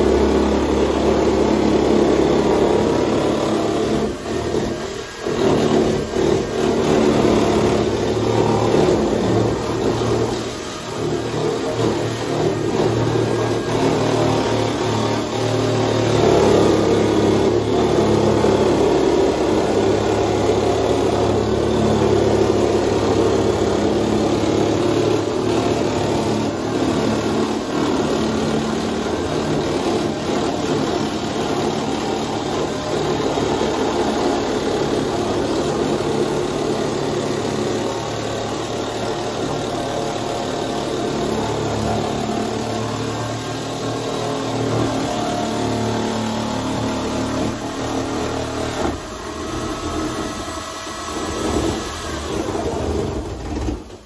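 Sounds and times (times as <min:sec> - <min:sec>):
electric nibbler cutting sheet steel: 0:00.0 - 0:54.0.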